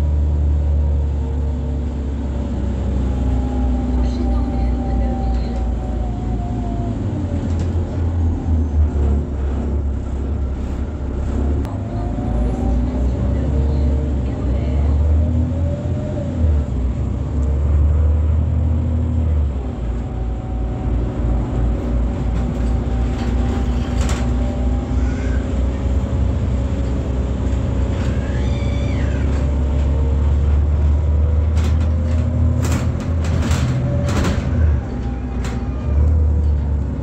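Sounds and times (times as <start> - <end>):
bus engine drone: 0.0 - 37.0.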